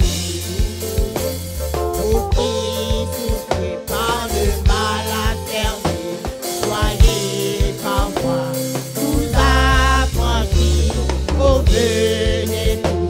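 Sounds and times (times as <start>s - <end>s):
bass line: 0.0s - 13.0s
drums: 0.0s - 13.0s
women singing a hymn: 1.9s - 13.0s.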